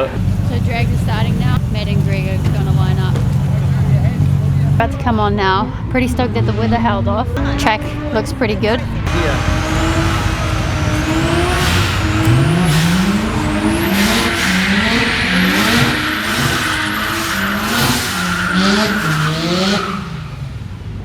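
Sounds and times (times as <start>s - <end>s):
engines revving: 0.0s - 21.0s
tyres spinning and squealing: 0.0s - 21.0s.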